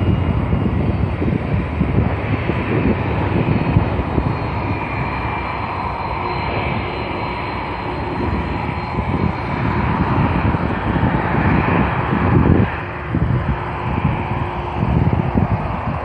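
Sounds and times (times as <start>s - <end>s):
jet engines rushing: 0.0s - 16.0s
wind gusts on microphone: 0.0s - 16.0s.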